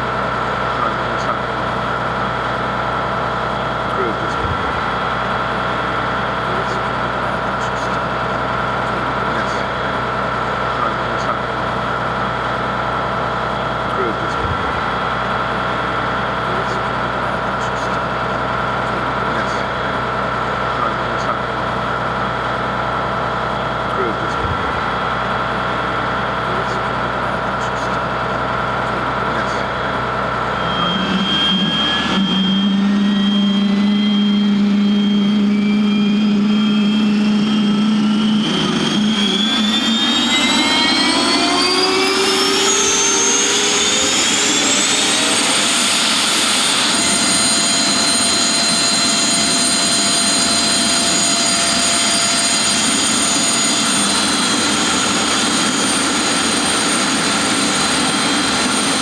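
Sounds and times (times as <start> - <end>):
jet engines spooling up whine: 0.0 - 59.0.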